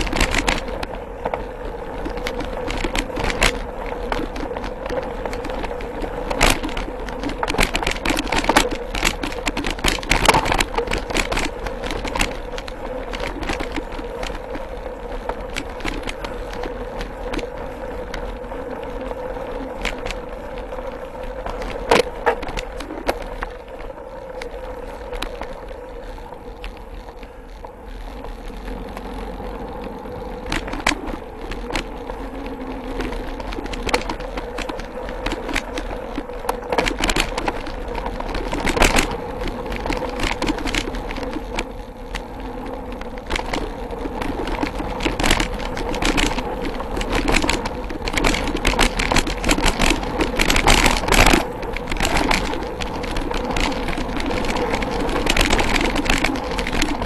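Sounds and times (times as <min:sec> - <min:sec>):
bike rattling over bumps: 0:00.0 - 0:57.0
bike tyre and drivetrain noise: 0:00.0 - 0:57.0.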